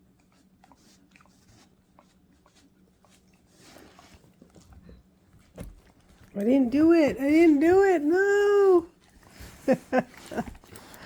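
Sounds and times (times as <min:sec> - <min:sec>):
faint clicks and rustles: 0:00.2 - 0:11.0.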